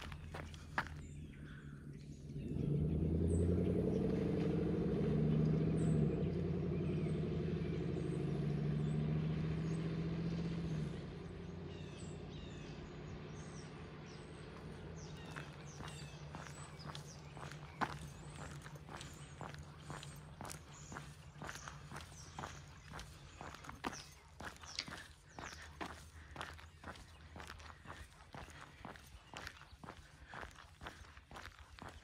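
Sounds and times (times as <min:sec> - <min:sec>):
engine drone: 0:00.0 - 0:32.0
small birds chirping: 0:00.0 - 0:32.0.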